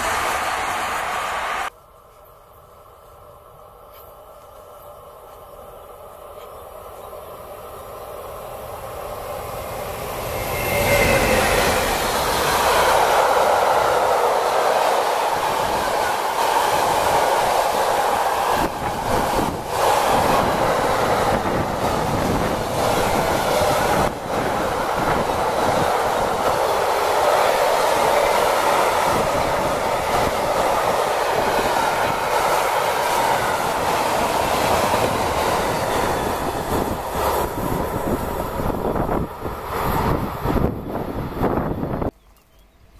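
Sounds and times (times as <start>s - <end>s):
freight train rolling past: 0.0s - 42.2s.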